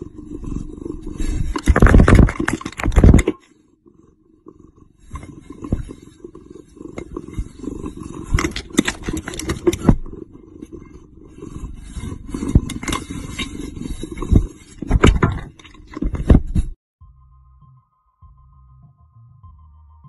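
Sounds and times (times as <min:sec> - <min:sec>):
cat purring: 0:00.0 - 0:16.2.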